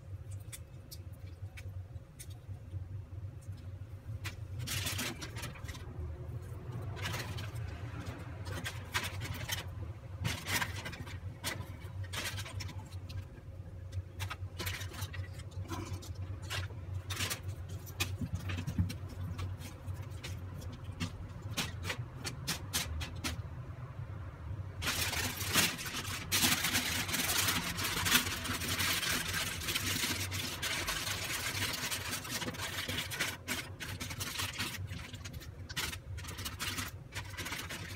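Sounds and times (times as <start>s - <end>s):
aluminium foil crinkling: 0.0s - 23.4s, 24.8s - 37.9s.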